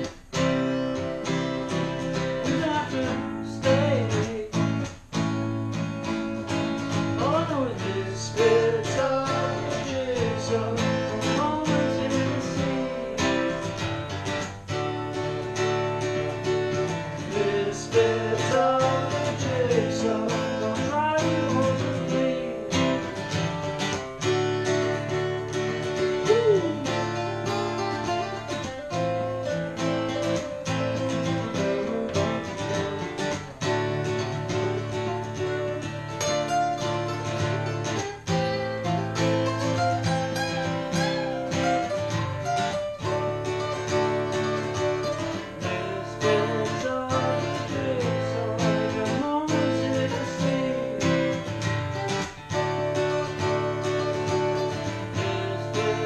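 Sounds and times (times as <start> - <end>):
acoustic guitars strumming: 0.0 - 56.0.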